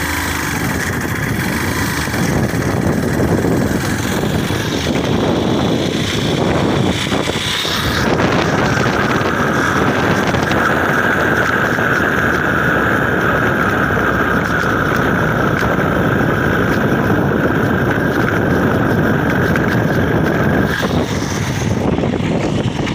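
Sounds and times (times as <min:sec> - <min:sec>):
motorcycle engine: 0:00.0 - 0:22.9
steady high hum: 0:00.0 - 0:22.9
wind buffeting microphone: 0:00.0 - 0:22.9.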